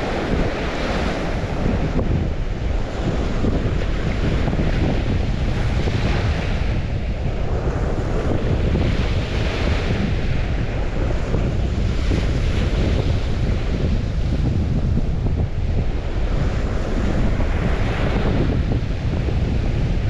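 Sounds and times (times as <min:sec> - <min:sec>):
waves washing onto shore: 0:00.0 - 0:20.0
wind buffeting microphone: 0:00.0 - 0:20.0.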